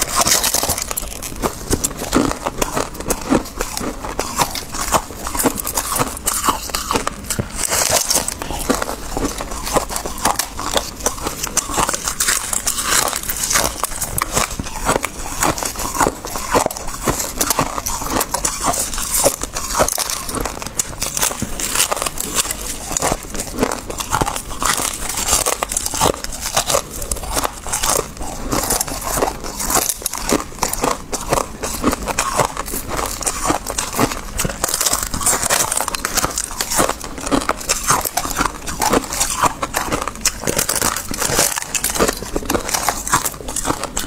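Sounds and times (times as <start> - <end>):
chewing crunchy frost: 0.0 - 44.0.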